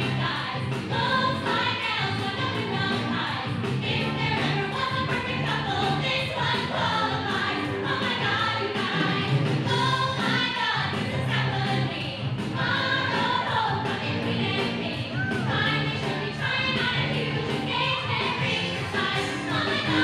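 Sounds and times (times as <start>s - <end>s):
pop music with sung vocals: 0.0s - 20.0s.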